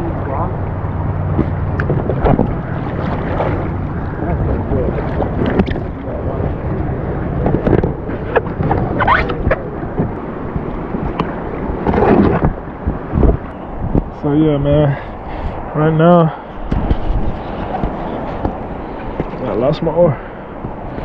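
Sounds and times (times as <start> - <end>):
river water sloshing: 0.0 - 13.9, 16.3 - 21.0
wind noise on microphone: 0.0 - 15.8, 16.5 - 19.7.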